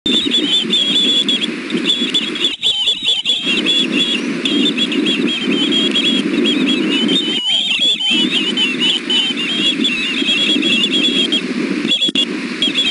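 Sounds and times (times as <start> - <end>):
low rumbling noise: 0.1 - 12.9
young birds chirping: 0.1 - 12.9.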